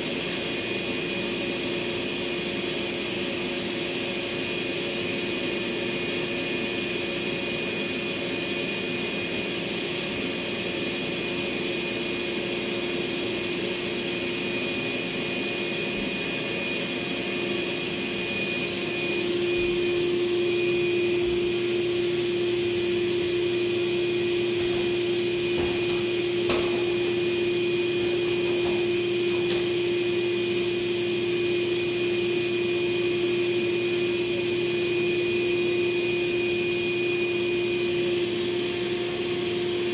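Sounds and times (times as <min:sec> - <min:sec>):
wet dry vacuum motor hum: 0:00.0 - 0:39.9.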